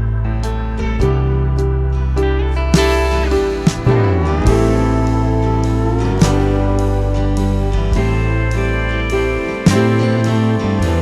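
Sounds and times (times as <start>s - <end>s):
calm guitar music: 0.0s - 11.0s.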